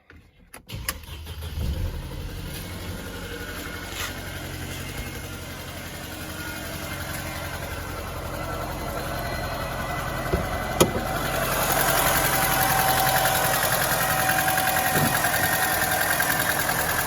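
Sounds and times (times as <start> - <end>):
car engine starting and idling: 0.2 - 17.0
engine lifters rattling: 0.7 - 17.0.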